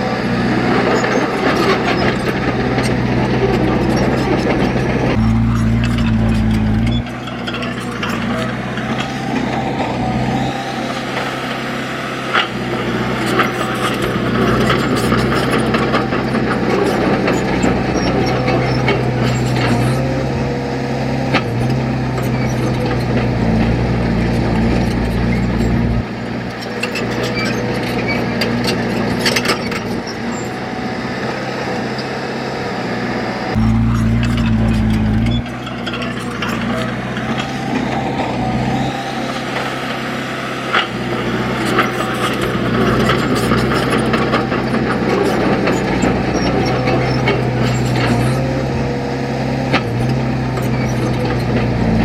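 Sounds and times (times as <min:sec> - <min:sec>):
heavy diesel machinery running: 0:00.0 - 0:52.0.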